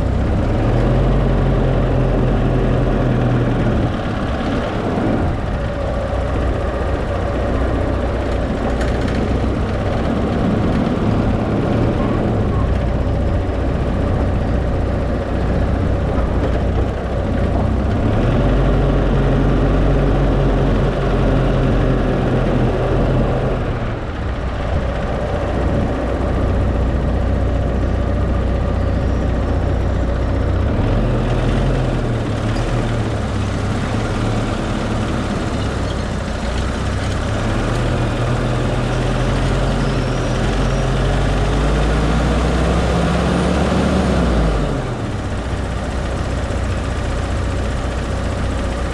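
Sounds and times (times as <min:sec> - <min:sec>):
car engine driving: 0:00.0 - 0:48.9
road noise: 0:00.0 - 0:48.9.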